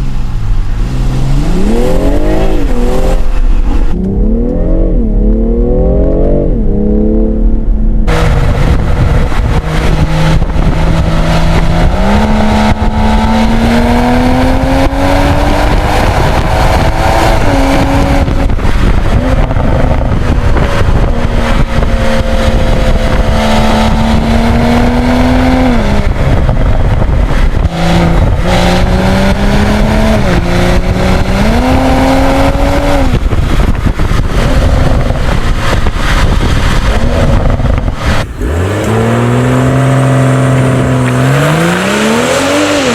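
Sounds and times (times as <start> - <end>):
car engine accelerating: 0.0 - 42.9
road and wind noise: 0.0 - 42.9.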